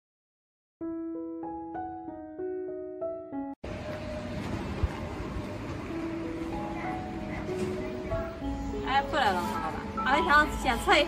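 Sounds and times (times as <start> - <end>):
slow gentle piano music: 0.8 - 11.0.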